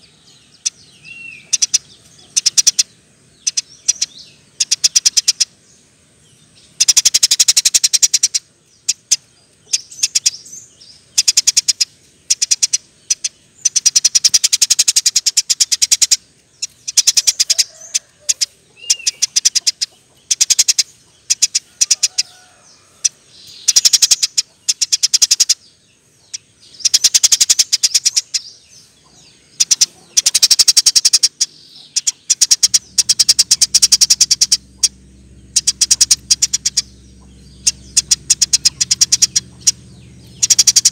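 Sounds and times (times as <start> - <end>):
faint low hum: 0.0 - 40.9
sparrow chirping: 0.0 - 40.9.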